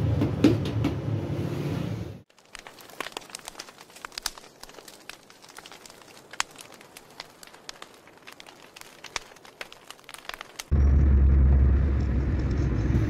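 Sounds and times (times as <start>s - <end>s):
fire crackling and popping: 2.2s - 13.0s.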